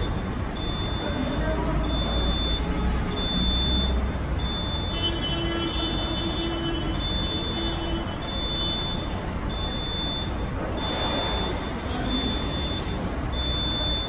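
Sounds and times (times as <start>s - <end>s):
high-pitched warning beep: 0.0s - 14.0s.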